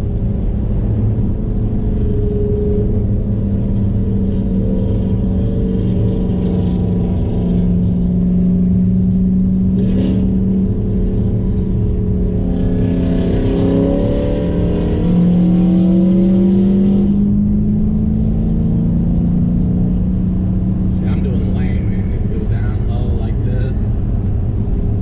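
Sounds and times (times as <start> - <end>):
car engine drone from inside cabin: 0.0 - 25.0.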